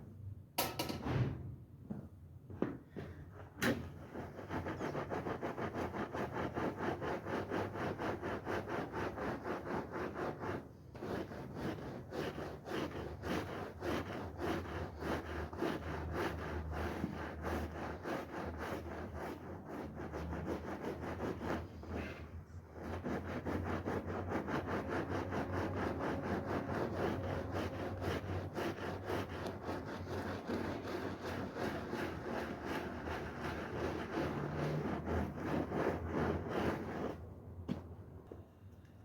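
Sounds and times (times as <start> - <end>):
brush scrubbing a rug: 3.6 - 37.4.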